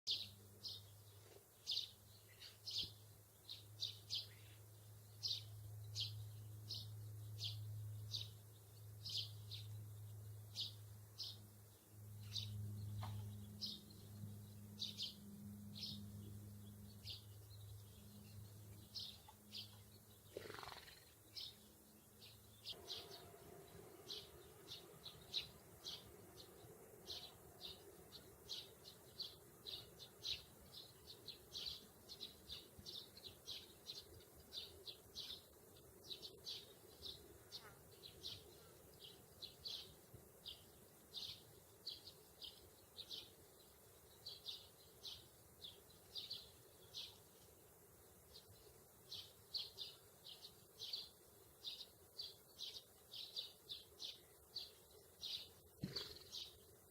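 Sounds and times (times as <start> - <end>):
small birds chirping: 0.1 - 56.9.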